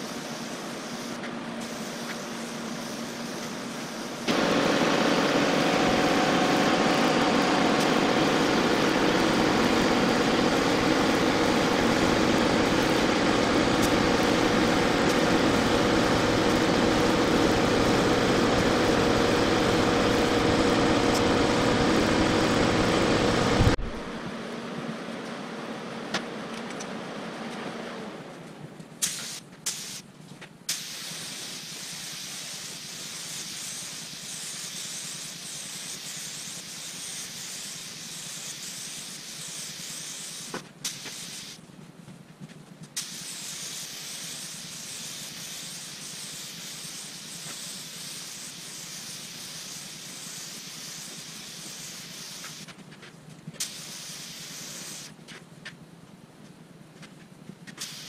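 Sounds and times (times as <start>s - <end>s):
paint spray gun hissing: 0.0s - 24.0s, 29.0s - 30.0s, 30.7s - 41.6s, 43.0s - 52.7s, 53.6s - 55.2s, 57.8s - 58.0s.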